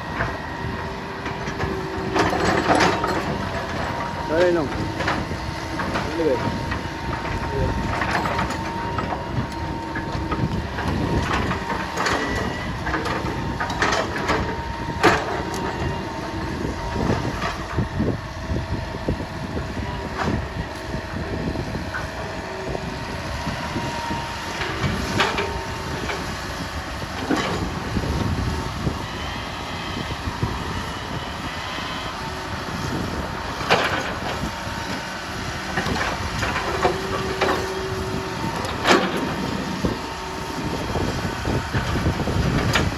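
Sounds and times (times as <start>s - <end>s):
heavy machine engine running: 0.0s - 42.9s.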